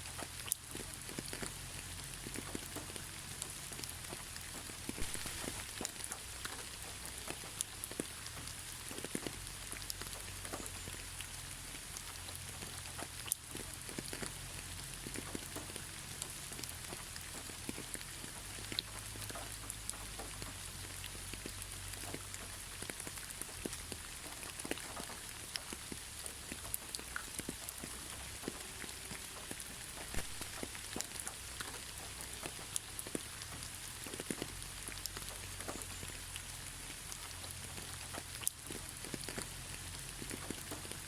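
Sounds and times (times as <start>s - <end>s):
rain drops tapping: 0.0s - 41.0s.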